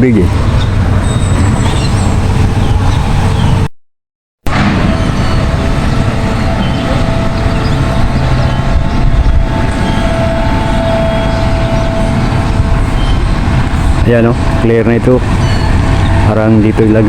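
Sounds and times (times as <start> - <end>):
engine rumble: 0.0 - 3.7, 4.5 - 17.0.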